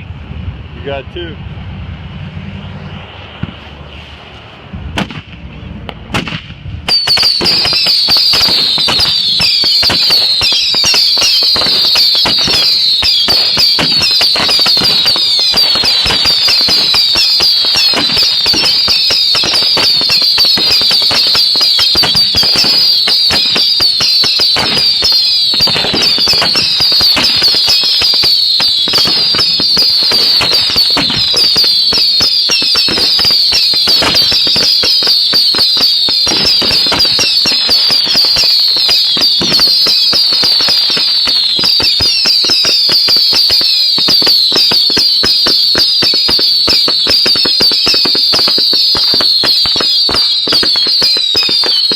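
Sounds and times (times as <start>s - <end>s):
fireworks crackling: 4.3s - 51.9s
firework bangs: 4.7s - 51.9s
shrill falling firework whistles: 6.9s - 51.9s.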